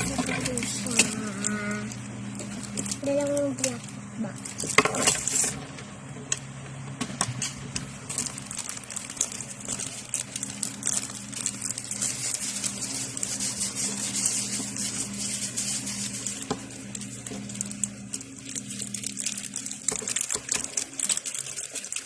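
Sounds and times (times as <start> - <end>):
packaging crackling and rustling: 0.0 - 5.6, 7.3 - 22.0
steady low hum: 0.0 - 22.0.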